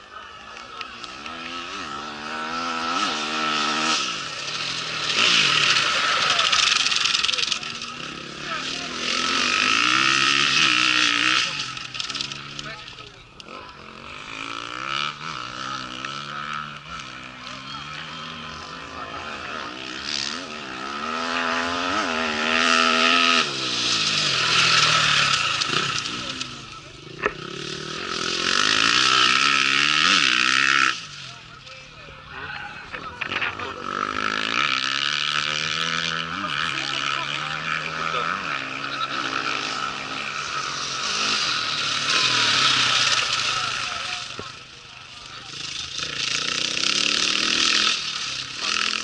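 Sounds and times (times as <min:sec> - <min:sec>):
motorcycle engine revving past: 0:00.8 - 0:31.4, 0:32.9 - 0:49.0.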